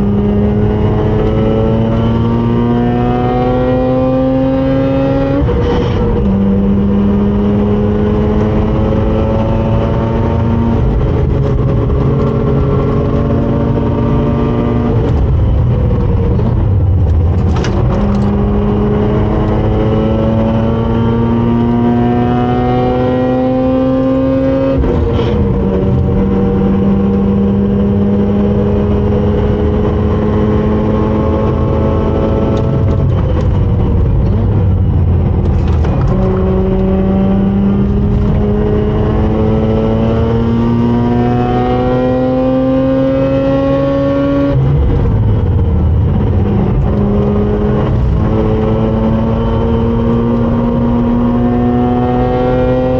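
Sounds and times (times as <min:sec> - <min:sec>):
rotary engine at full throttle: 0:00.0 - 0:52.9.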